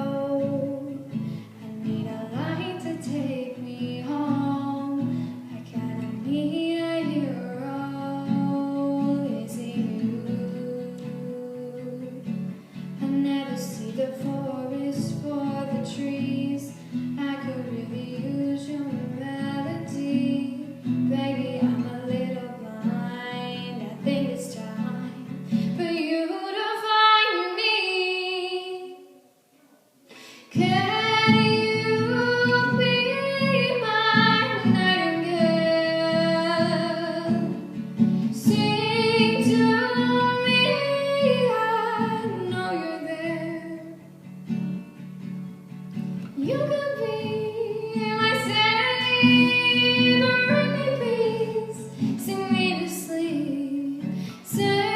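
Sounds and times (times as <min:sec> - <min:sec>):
woman singing pop ballad: 0:00.0 - 0:12.3, 0:13.0 - 0:29.0, 0:30.5 - 0:37.7, 0:38.3 - 0:44.0, 0:46.3 - 0:54.9
acoustic guitar: 0:00.0 - 0:54.9.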